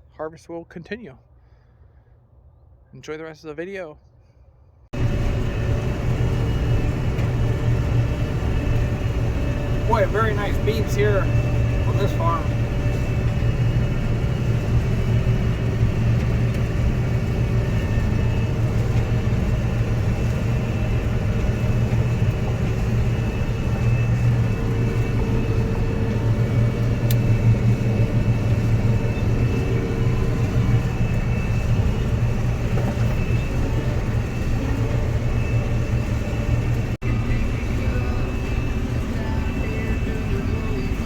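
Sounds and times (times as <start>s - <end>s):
combine harvester engine humming: 5.0s - 41.0s.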